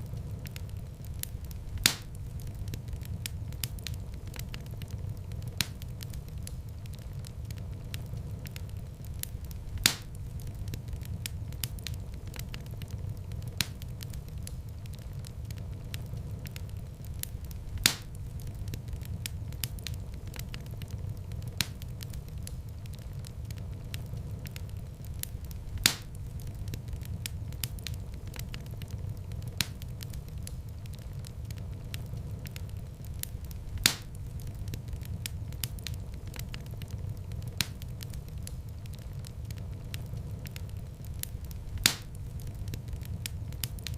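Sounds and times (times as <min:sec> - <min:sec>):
sharp fire pops: 0:00.0 - 0:43.9
wood fire crackling: 0:00.0 - 0:43.9.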